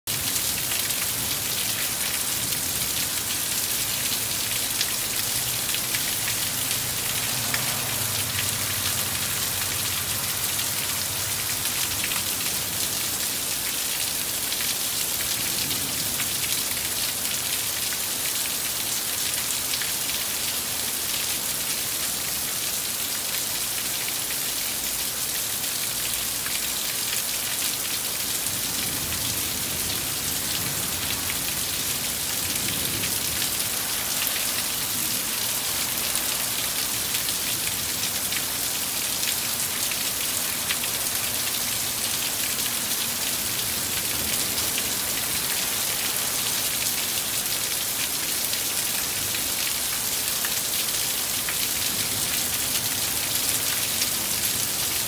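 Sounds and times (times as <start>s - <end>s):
heavy rain falling: 0.1s - 55.0s.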